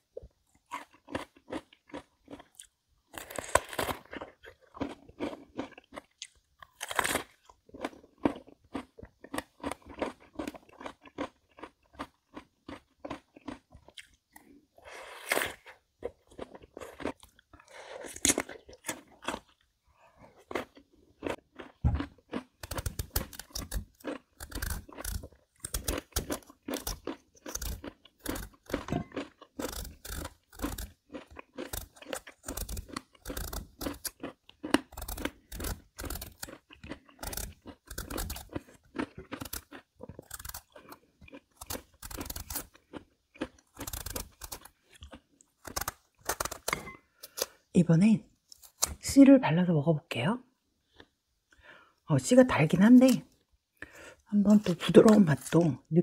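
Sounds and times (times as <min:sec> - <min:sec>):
crunchy chewing of melon: 0:00.1 - 0:47.6.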